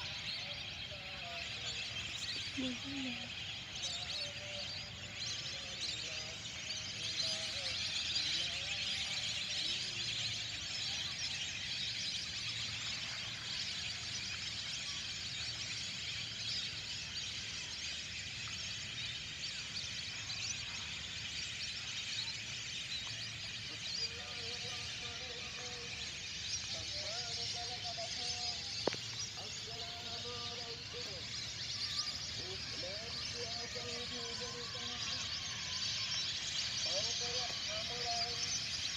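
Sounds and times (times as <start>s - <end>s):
chorus of birds chirping: 0.0s - 38.9s
low wavering bird calls: 0.0s - 38.9s.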